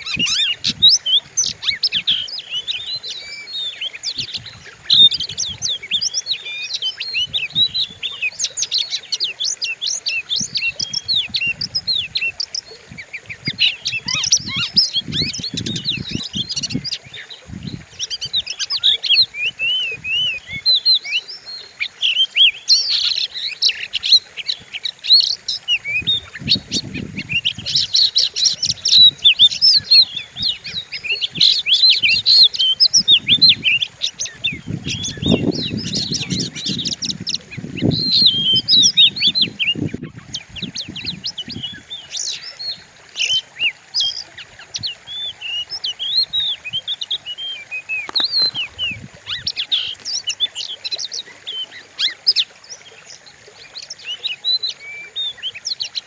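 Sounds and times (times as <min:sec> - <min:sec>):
bird singing chirps and whistles: 0:00.0 - 0:52.9.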